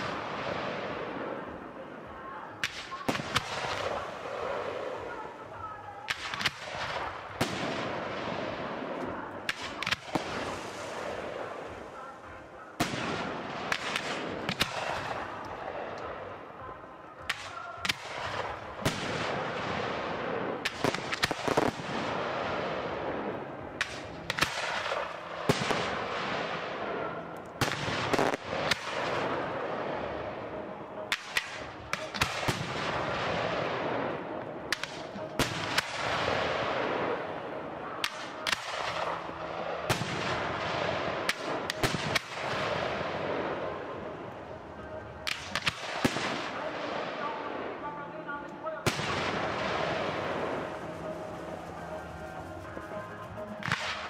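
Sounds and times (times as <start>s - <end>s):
rumble and echo: 0.0s - 54.0s.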